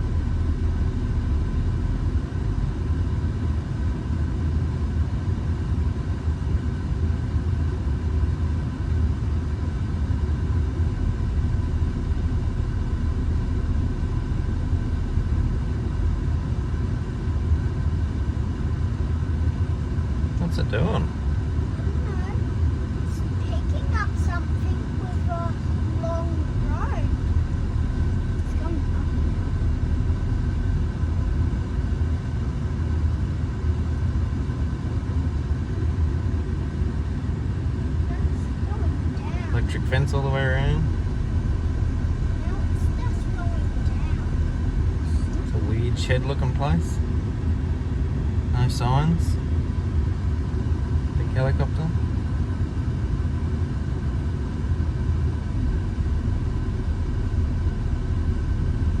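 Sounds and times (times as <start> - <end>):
faint steady whine: 0.0 - 59.0
helicopter rotor rumble: 0.0 - 59.0.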